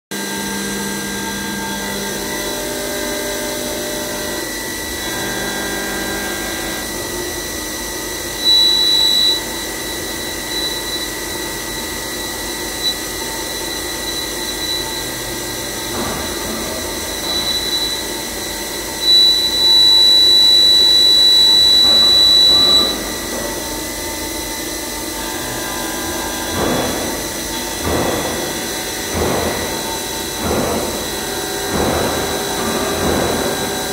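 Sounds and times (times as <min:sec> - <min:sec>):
high-pitched cutting whine: 0:00.1 - 0:33.9
machine hum with fixed tones: 0:00.1 - 0:33.9.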